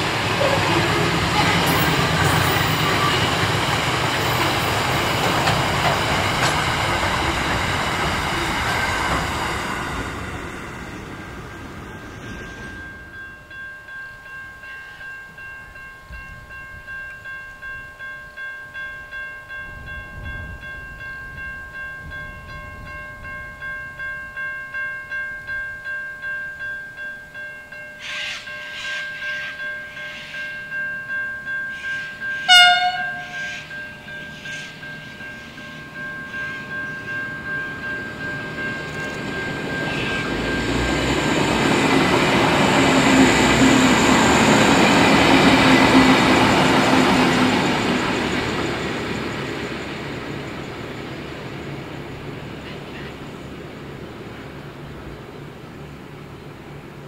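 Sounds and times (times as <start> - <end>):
level crossing warning bell: 0.0 - 52.6
diesel railcar approaching: 0.0 - 57.0
freight train rolling past: 0.0 - 57.0.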